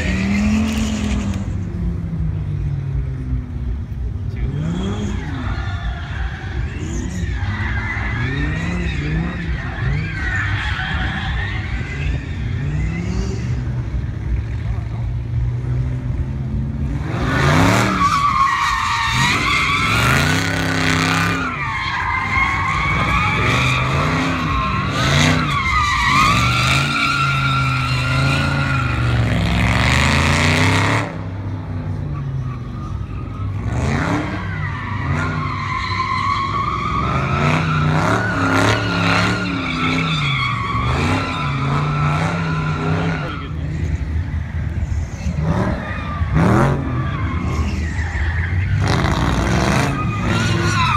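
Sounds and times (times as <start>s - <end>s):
tires squealing: 0.0s - 3.3s, 4.0s - 50.9s
car engine revving: 0.0s - 50.9s.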